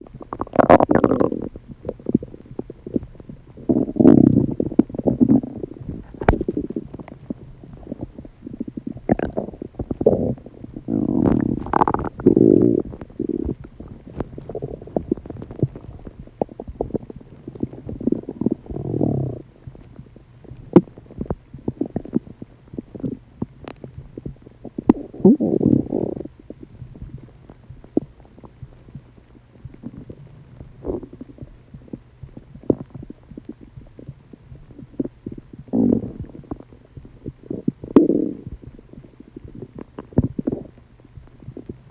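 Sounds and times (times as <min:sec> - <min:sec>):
stomach gurgling and rumbling: 0:00.0 - 0:41.9.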